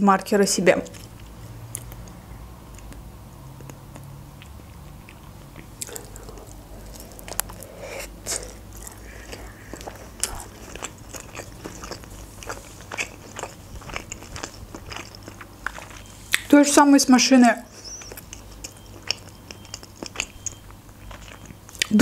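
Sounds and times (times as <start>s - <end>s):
close chewing crisp wet clicks: 0.8s - 16.7s, 17.6s - 22.0s.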